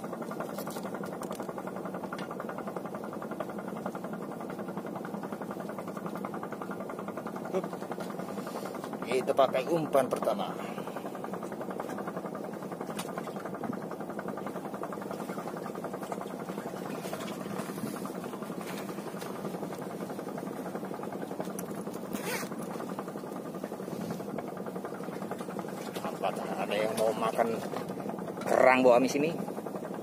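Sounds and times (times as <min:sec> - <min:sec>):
engine running with fast pulse: 0:00.0 - 0:30.0.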